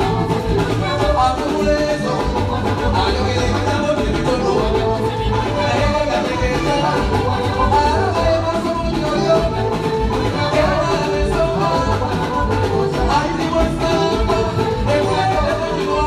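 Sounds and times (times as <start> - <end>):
live band with dance beat: 0.0 - 16.0.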